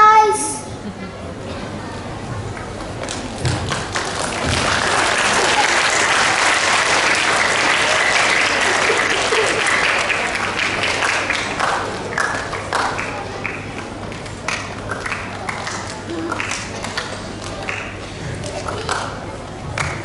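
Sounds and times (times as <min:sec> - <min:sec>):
audience applauding: 0:03.1 - 0:19.2.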